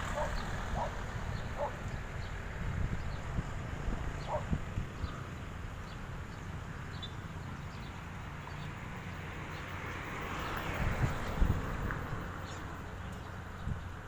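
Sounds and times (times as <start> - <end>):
wind rumble on microphone: 0.0 - 8.6, 10.5 - 14.0.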